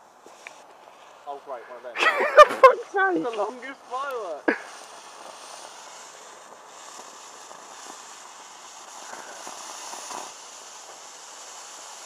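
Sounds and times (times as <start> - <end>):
faint crackles: 0.0 - 12.0
firework hissing: 0.0 - 12.0.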